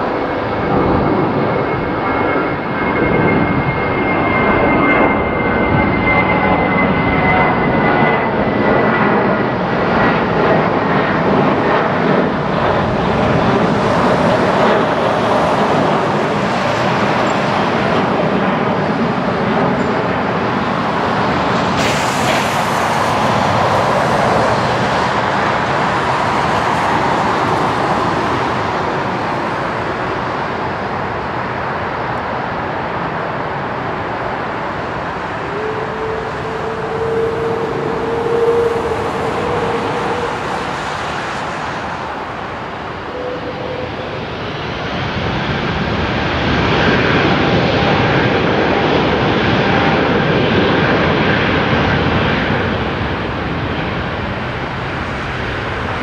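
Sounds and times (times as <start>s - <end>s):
jet engines rumble and whine: 0.0s - 56.0s.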